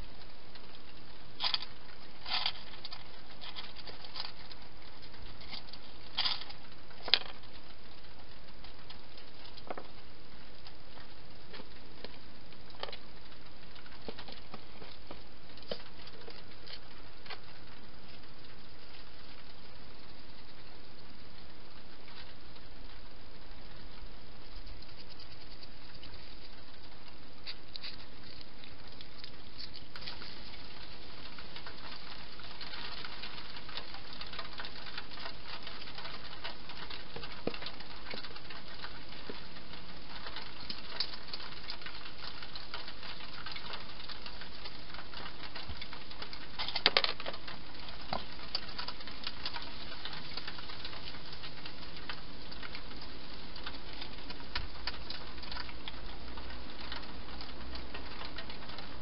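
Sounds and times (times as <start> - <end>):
hedgehog chewing and crunching: 0.0 - 59.0.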